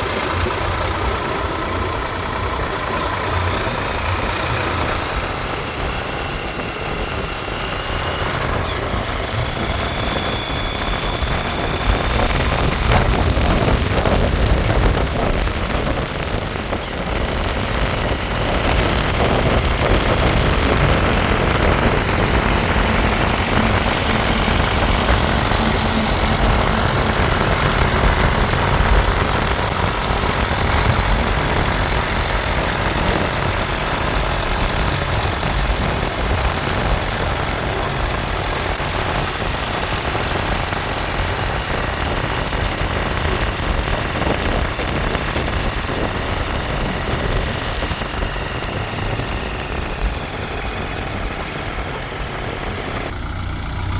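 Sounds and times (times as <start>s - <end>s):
diesel engine rumbling: 0.0s - 53.9s.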